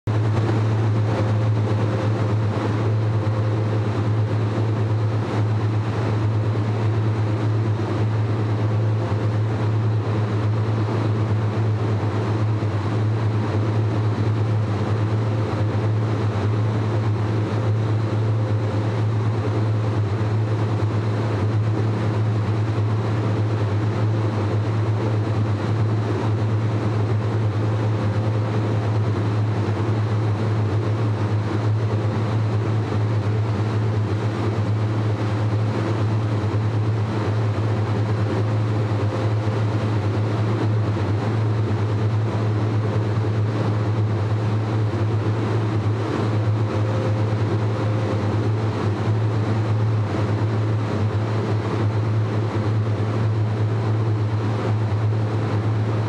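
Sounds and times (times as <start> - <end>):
machinery low hum: 0.1 - 56.0.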